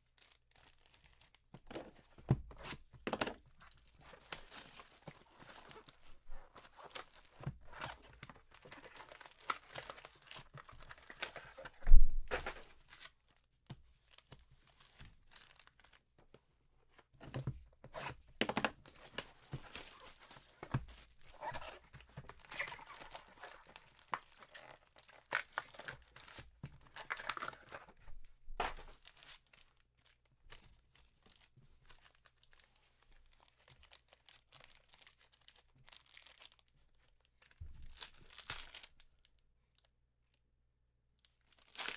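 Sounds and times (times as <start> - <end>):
foil packs rustling and crinkling: 0.1 - 13.5, 14.1 - 16.0, 17.3 - 36.7, 41.5 - 41.9.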